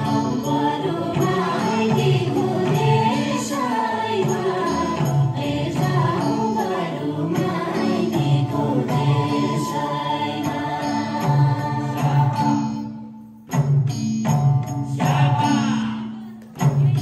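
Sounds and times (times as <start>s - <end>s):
voices singing folk song: 0.0s - 13.0s, 14.9s - 17.0s
steady repeating rhythm: 0.0s - 17.0s.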